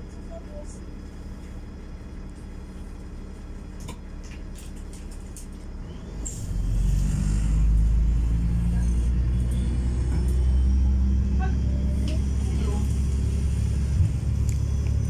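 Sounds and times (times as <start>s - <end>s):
diesel engine low drone: 0.0s - 15.0s.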